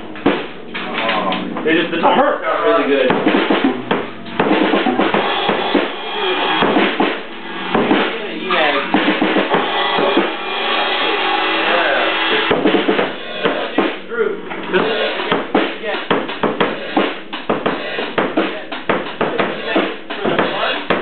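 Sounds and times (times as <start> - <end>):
bass drum and snare hits: 0.0 - 0.8, 3.0 - 11.3, 12.3 - 21.0.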